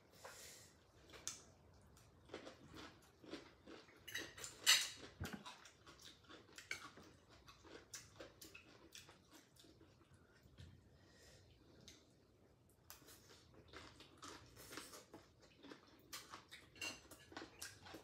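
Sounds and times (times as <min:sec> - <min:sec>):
chewing and crunching food: 0:00.8 - 0:18.0.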